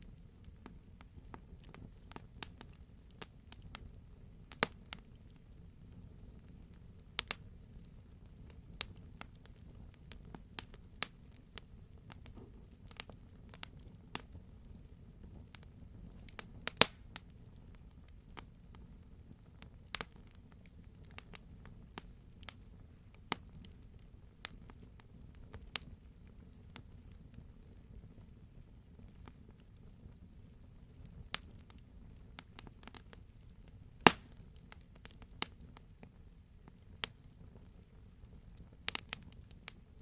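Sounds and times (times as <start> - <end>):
low rumble of flames: 0.0 - 40.0
campfire pops and snaps: 0.4 - 5.3, 6.0 - 28.3, 29.0 - 30.2, 30.9 - 40.0.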